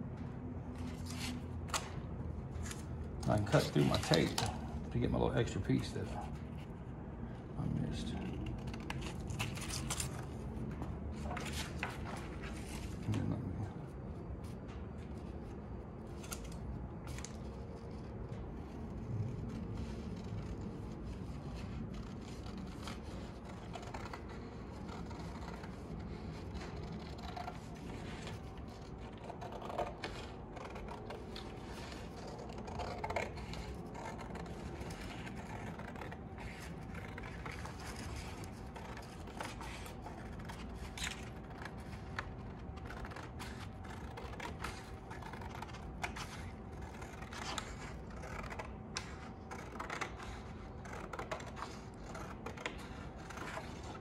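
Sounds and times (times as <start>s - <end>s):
low background hum: 0.0s - 54.0s
scissors cutting cardboard: 0.7s - 6.8s, 7.6s - 54.0s
stiff paper rustling: 0.7s - 54.0s.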